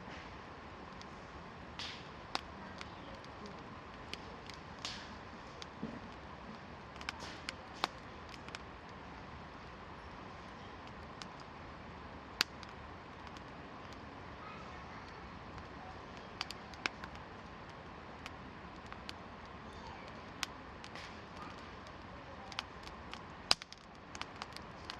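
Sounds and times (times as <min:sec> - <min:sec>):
campfire crackling and popping: 0:00.2 - 0:24.9.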